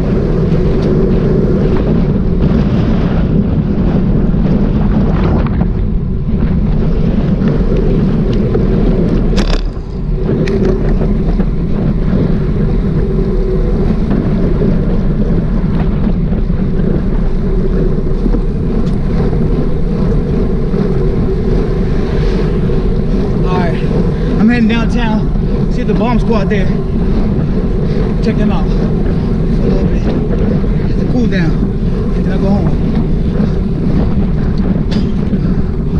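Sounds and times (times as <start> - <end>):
motorcycle engine cruising: 0.0 - 35.9
wind rumbling on microphone: 0.0 - 35.9.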